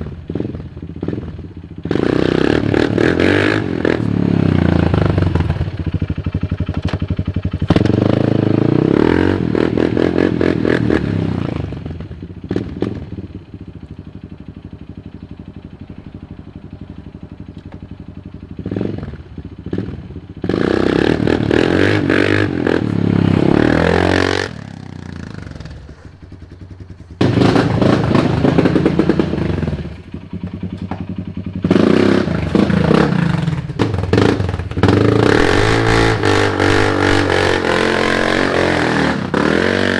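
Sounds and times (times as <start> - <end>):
atv engine idling: 0.0 - 39.9
atv engine revving: 0.0 - 39.9.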